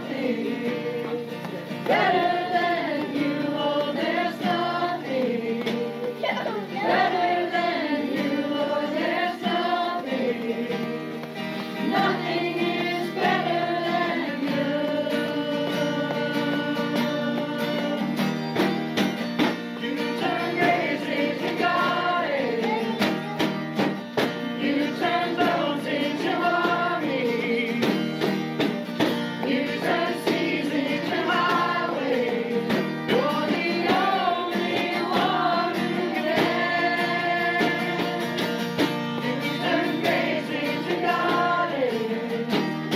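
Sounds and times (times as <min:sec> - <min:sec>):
congregation singing praise song: 0:00.0 - 0:42.9
guitar accompaniment: 0:00.0 - 0:42.9.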